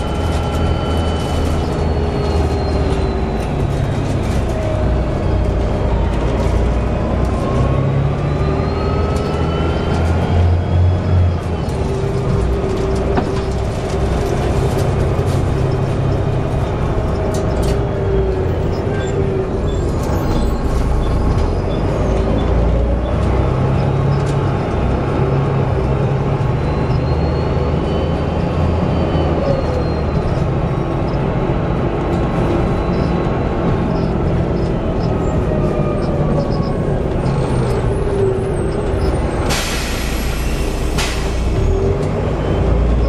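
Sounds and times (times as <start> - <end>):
bus engine running: 0.0 - 43.0.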